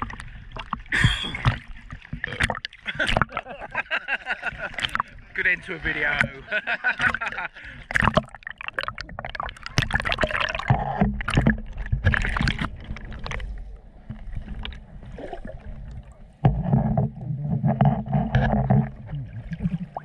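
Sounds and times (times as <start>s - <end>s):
water sloshing underwater: 0.0s - 20.0s
water splashes: 0.0s - 20.0s.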